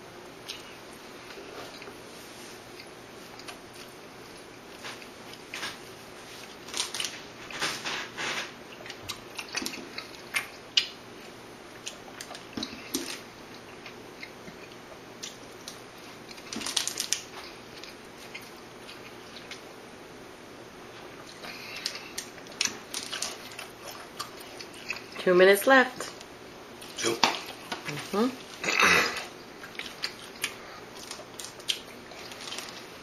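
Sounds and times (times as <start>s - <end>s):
person chewing: 0.4s - 7.5s, 8.4s - 19.7s, 21.0s - 25.2s, 26.1s - 33.0s.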